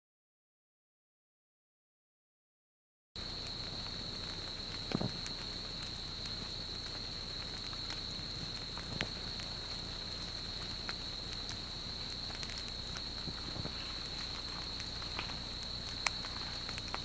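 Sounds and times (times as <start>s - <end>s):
steady hiss: 3.2s - 17.0s
vegetation crackling and popping: 3.2s - 17.0s.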